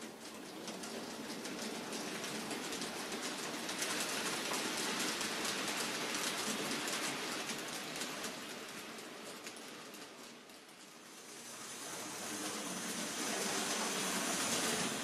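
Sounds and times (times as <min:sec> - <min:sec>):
model train wheels clicking on rails: 0:00.0 - 0:15.0.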